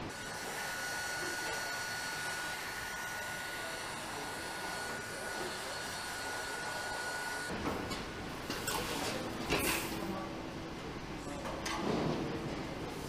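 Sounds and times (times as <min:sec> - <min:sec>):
hot-air gun fan hiss and whine: 0:00.0 - 0:13.0.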